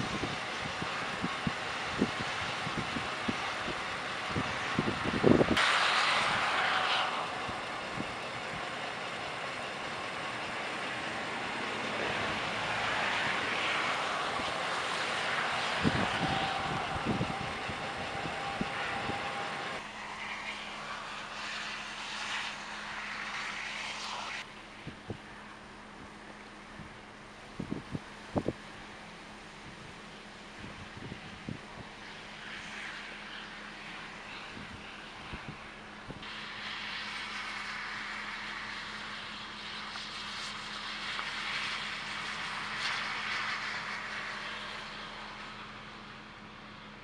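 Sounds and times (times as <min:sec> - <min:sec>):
vehicles driving past: 0:00.0 - 0:47.0.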